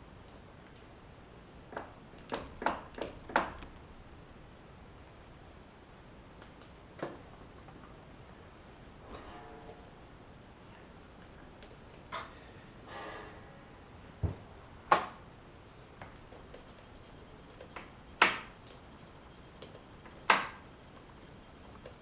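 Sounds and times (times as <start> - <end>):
low workshop room noise: 0.0 - 22.0.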